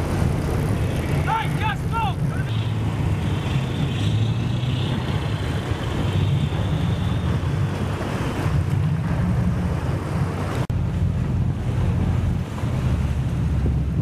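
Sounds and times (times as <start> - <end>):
boat engine droning: 0.0 - 14.0
water rushing along hull: 0.0 - 14.0
wind buffeting microphone: 0.0 - 14.0.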